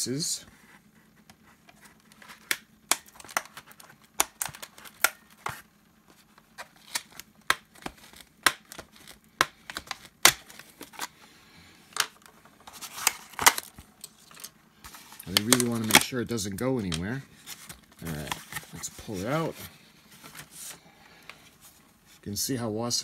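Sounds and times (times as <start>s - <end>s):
cardboard and plastic tabs handled: 0.5s - 11.2s, 11.9s - 22.2s.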